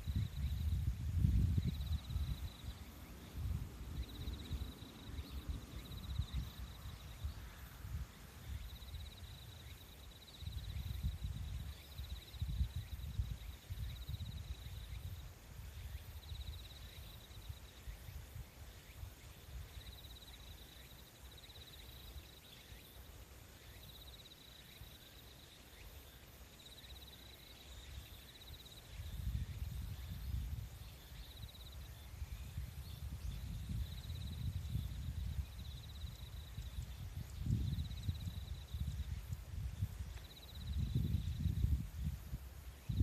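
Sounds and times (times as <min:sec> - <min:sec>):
high insect trill: 0:00.0 - 0:43.0.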